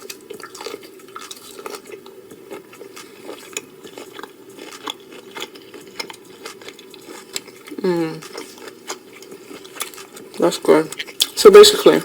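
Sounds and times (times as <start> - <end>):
person chewing wet food: 0.0 - 11.4
faint steady hum: 0.0 - 12.0.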